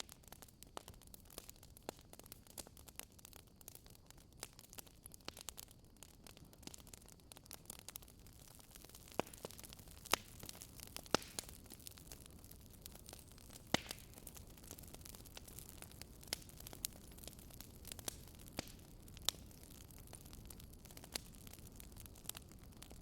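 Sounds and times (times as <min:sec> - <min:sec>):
wood fire crackling pops: 0:00.0 - 0:23.0
fire hissing: 0:03.6 - 0:23.0.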